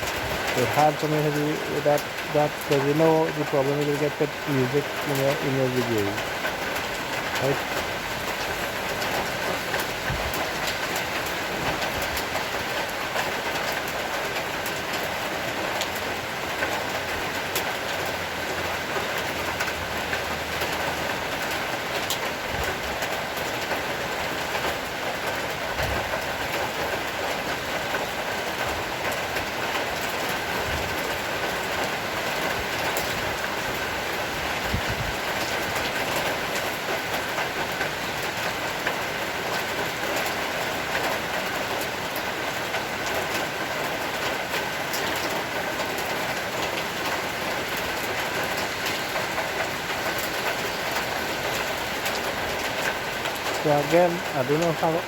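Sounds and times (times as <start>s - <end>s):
heavy rain pouring: 0.0s - 55.0s
raindrops ticking on hard surfaces: 0.0s - 55.0s.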